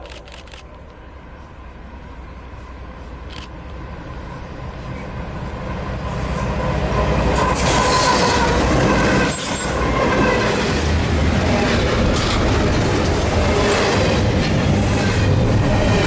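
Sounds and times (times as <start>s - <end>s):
train wheels rumbling on rails: 0.0s - 16.0s
diesel locomotive passing: 0.6s - 16.0s.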